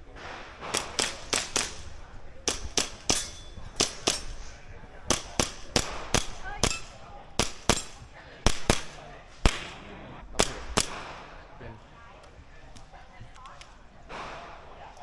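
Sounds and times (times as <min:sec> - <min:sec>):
airsoft gun shots: 0:00.1 - 0:11.6, 0:13.4 - 0:15.0.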